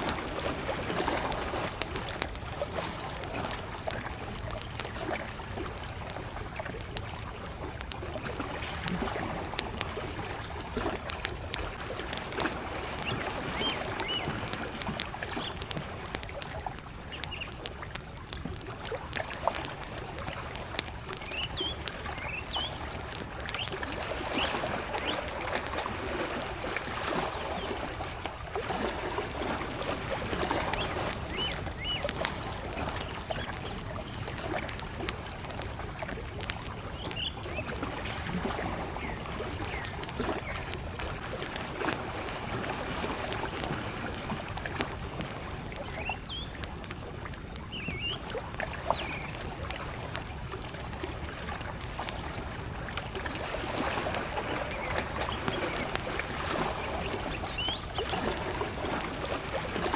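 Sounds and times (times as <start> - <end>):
campfire crackling and popping: 0.0 - 59.9
lake waves lapping: 0.0 - 59.9.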